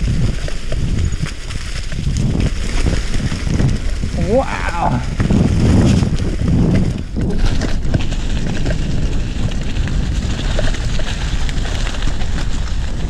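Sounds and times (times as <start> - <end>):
bike rattling and clicking: 0.0 - 13.0
bike tyres rolling on dirt: 0.0 - 13.0
wind rumble on microphone: 0.0 - 13.0.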